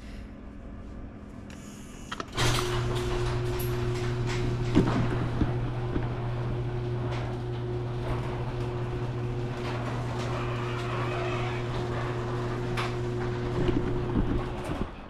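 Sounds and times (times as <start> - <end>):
garage door motor hum: 0.4 - 15.0
garage door clicks: 2.1 - 15.0.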